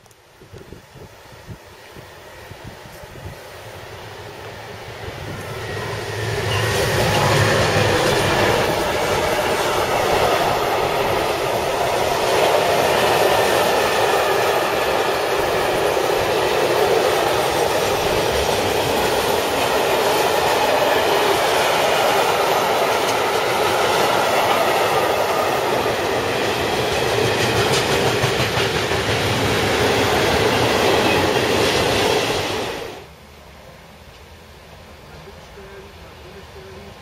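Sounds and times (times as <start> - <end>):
train wheels running on rails: 0.0 - 37.0.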